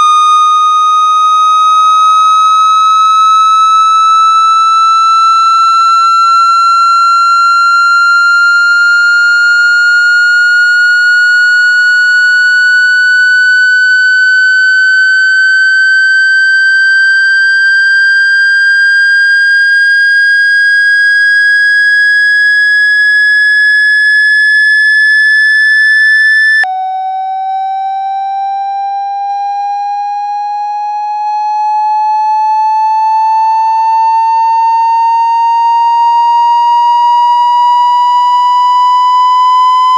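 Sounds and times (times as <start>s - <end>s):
high electronic tone rising in pitch: 0.0s - 30.6s, 31.5s - 39.9s.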